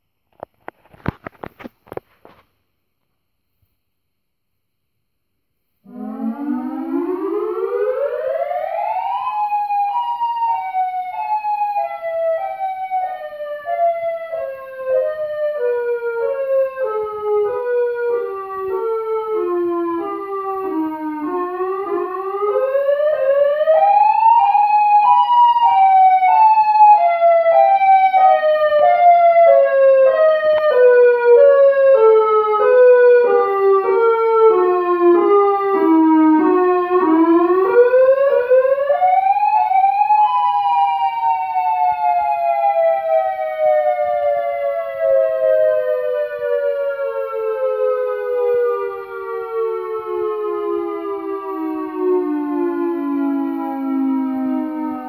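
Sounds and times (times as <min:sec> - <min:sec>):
synthesized siren wail: 0:05.9 - 0:55.0.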